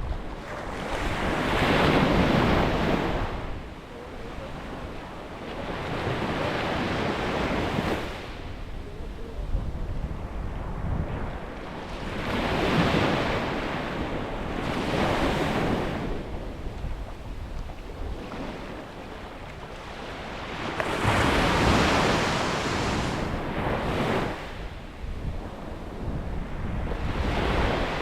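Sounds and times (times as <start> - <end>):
sea waves breaking on shore: 0.0 - 28.0
wind rumble on microphone: 0.0 - 28.0.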